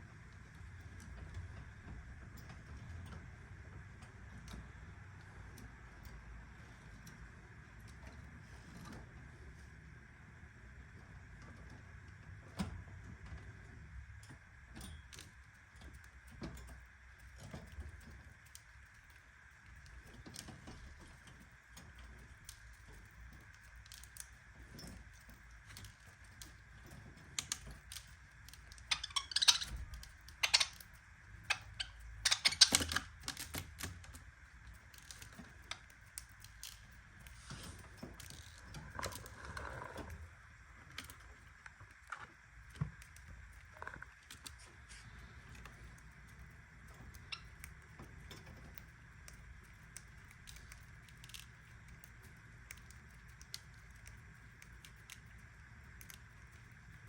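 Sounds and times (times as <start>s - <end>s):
clicks and metallic rattles in cage: 0.3s - 9.2s, 11.4s - 40.2s, 40.9s - 57.0s.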